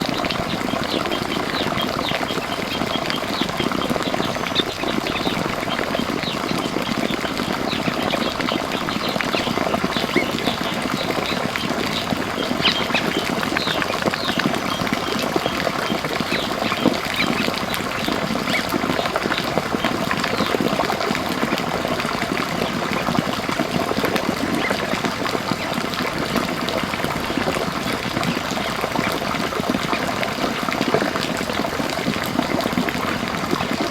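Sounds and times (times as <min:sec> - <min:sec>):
rushing water: 0:00.0 - 0:33.9
small birds chirping: 0:00.0 - 0:33.9.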